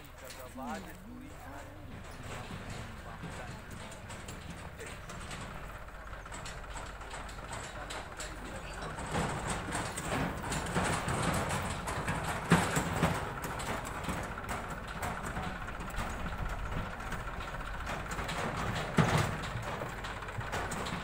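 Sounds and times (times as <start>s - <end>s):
diesel engines idling: 0.0s - 21.0s.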